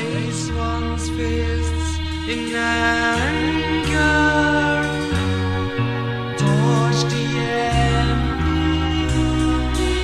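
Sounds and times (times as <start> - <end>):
instrumental rock music: 0.0 - 10.0.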